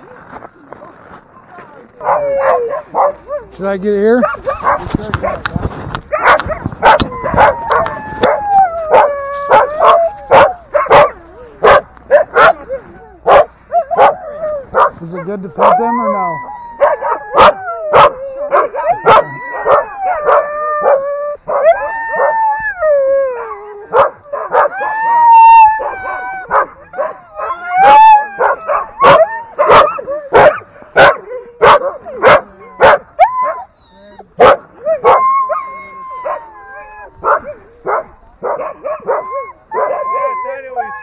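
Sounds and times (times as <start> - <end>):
dogs howling and yelping: 2.0 - 3.5, 6.1 - 41.0
sled dogs barking: 2.0 - 5.5, 6.1 - 41.0.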